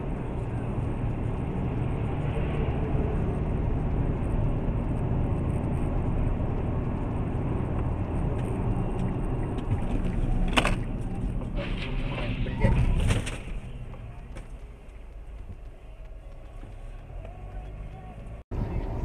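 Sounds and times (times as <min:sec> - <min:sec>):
car engine: 0:00.0 - 0:19.0
road noise: 0:00.0 - 0:19.0.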